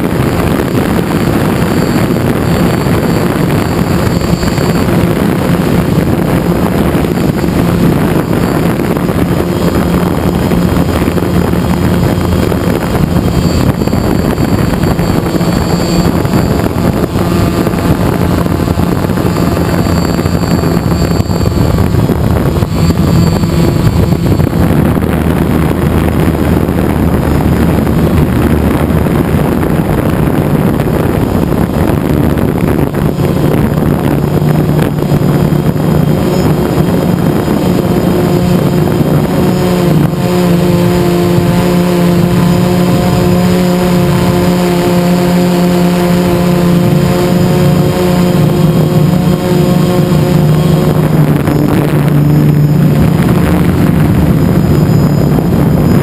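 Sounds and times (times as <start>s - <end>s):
drone motors buzzing: 0.0s - 56.0s
higher steady tones: 0.0s - 56.0s.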